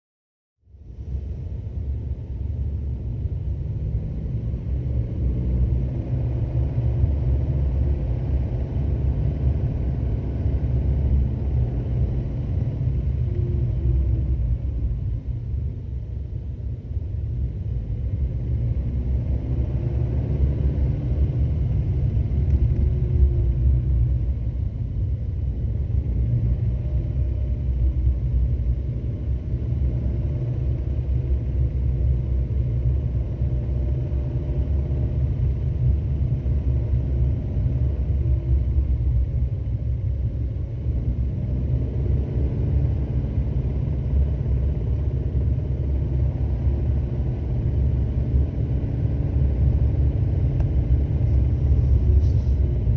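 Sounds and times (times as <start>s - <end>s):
car engine rumbling: 0.6s - 52.9s.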